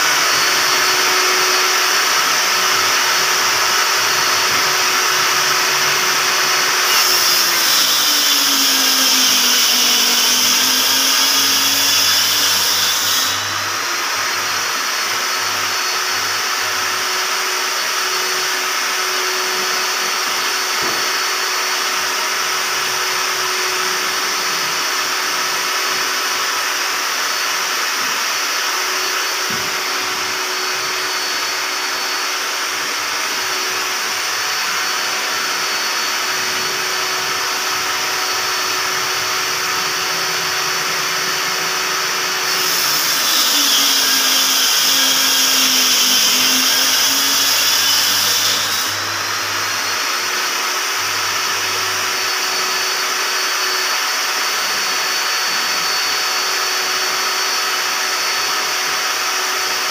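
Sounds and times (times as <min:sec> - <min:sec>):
saw blade cutting board: 0:00.0 - 0:59.9
table saw whining: 0:00.0 - 0:59.9.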